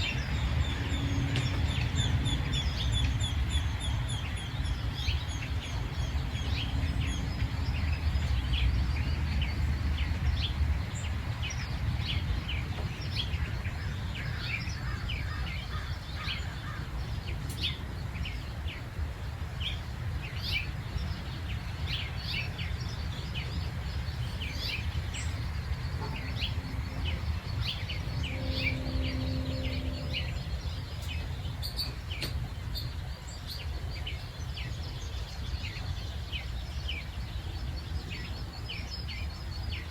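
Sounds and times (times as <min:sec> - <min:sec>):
low background rumble: 0:00.0 - 0:39.8
small birds chirping: 0:00.0 - 0:39.9.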